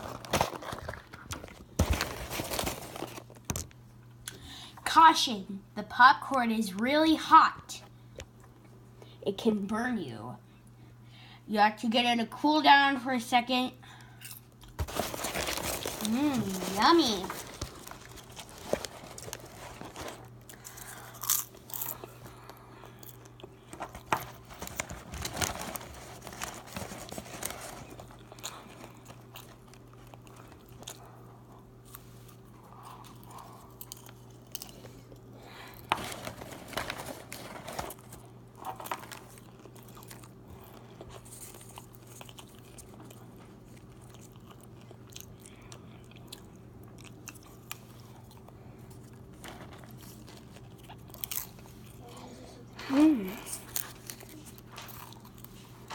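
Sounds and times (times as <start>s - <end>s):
person crunching popcorn: 0.0s - 4.6s, 14.0s - 55.9s
steady low hum: 0.0s - 55.9s.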